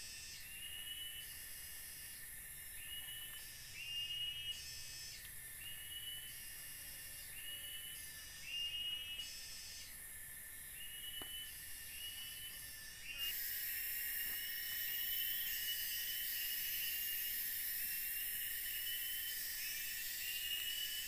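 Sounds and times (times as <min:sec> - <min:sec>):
insect buzzing hiss: 0:00.0 - 0:21.0
short rising insect call: 0:00.0 - 0:21.0.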